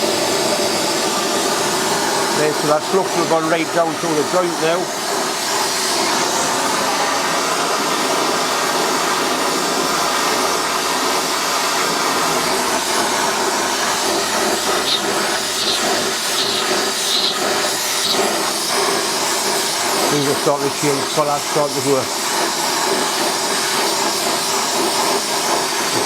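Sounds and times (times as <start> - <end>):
torch flame hissing: 0.0 - 26.0.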